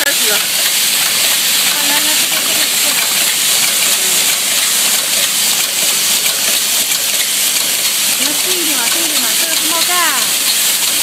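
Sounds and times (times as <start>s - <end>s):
metal parts rattling in feeders: 0.2s - 11.0s.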